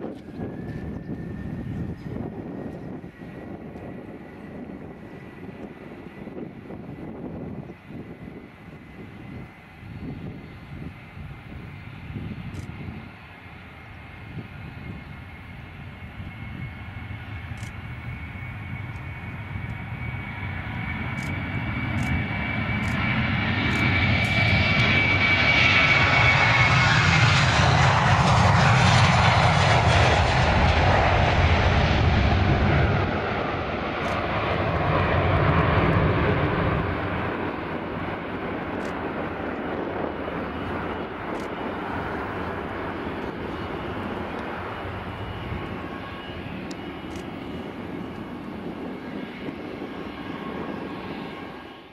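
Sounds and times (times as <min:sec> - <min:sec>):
jet engines at takeoff thrust: 0:00.0 - 0:51.9.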